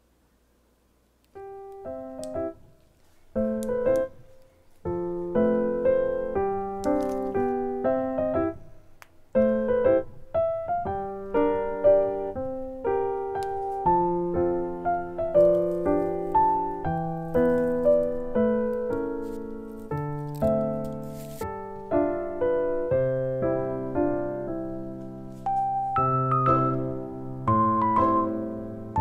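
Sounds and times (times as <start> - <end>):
bouncy piano melody: 1.4 - 29.0.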